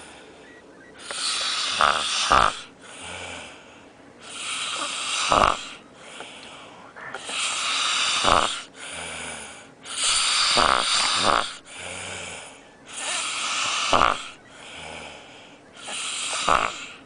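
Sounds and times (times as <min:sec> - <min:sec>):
man snoring: 0:01.1 - 0:03.6, 0:04.2 - 0:05.8, 0:07.2 - 0:17.0.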